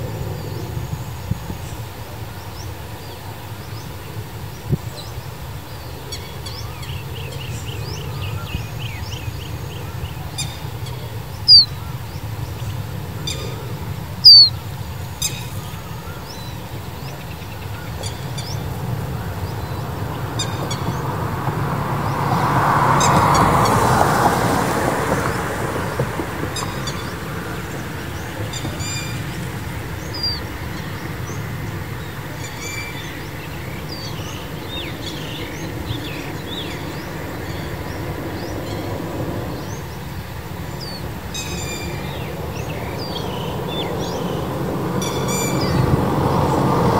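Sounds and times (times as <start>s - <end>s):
birds chirping: 0.0s - 46.9s
broad rushing noise: 0.0s - 46.9s
loud sharp bird calls: 5.0s - 40.1s, 40.8s - 46.9s.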